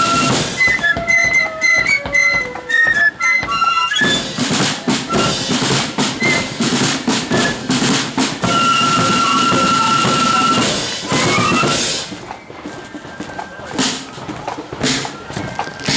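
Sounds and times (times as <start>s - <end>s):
drum roll: 0.0s - 15.9s
drum taps: 0.0s - 15.9s
flute band playing: 0.0s - 15.9s.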